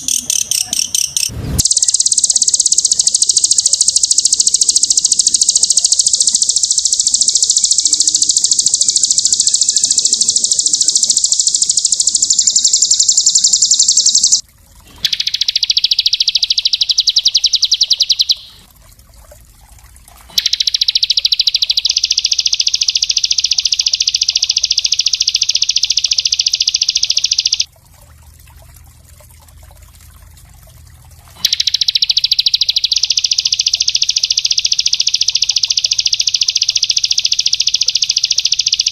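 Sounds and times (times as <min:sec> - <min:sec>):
songbird trilling: 0:00.0 - 0:14.4, 0:15.0 - 0:18.6, 0:20.4 - 0:27.7, 0:31.4 - 0:38.9.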